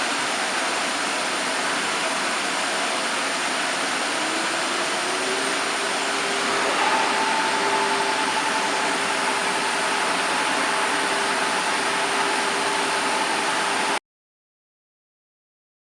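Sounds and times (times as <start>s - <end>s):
router machine whirring: 0.9s - 14.0s.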